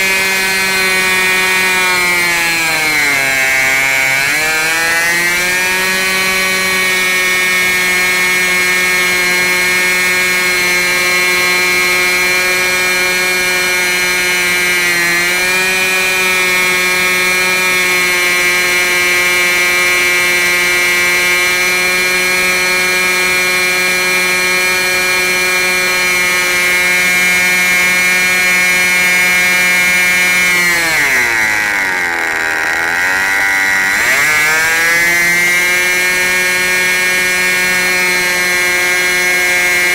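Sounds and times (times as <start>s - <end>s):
model engine high-pitched buzz: 0.0s - 39.9s.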